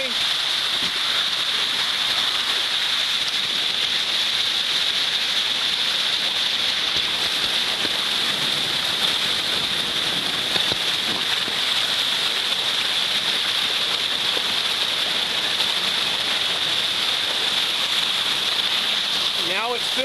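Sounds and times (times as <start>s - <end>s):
water rushing into pothole: 0.0s - 20.0s.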